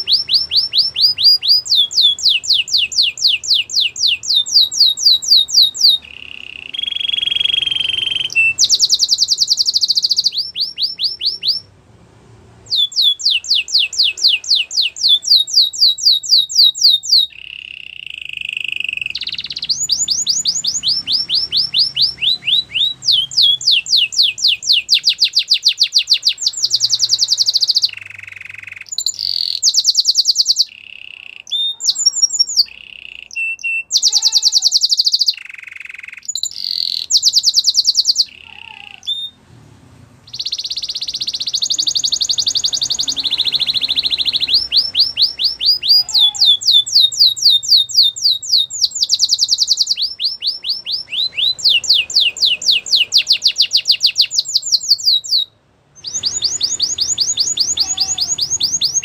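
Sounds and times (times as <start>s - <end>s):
canary singing: 0.0s - 11.8s, 12.5s - 39.5s, 40.2s - 59.0s.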